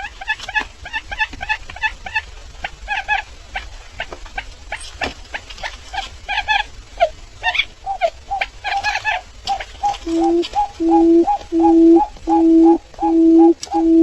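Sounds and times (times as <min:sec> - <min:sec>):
bird chirping calls: 0:00.0 - 0:14.0.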